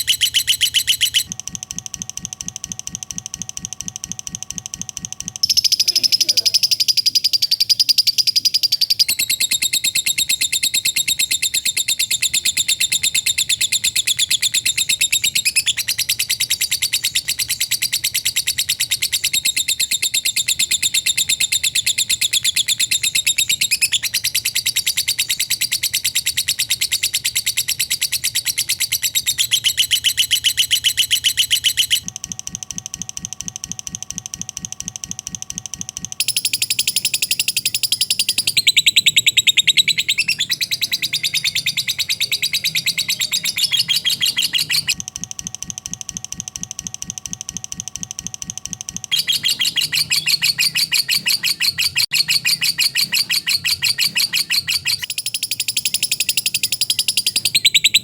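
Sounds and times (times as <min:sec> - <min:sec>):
bird chattering trill: 0:00.0 - 0:01.4, 0:04.5 - 0:32.1, 0:36.2 - 0:45.0, 0:48.6 - 0:58.0.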